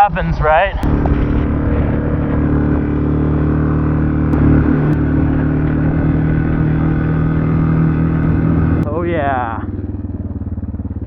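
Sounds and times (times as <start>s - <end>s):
motorcycle engine running: 0.8s - 11.0s.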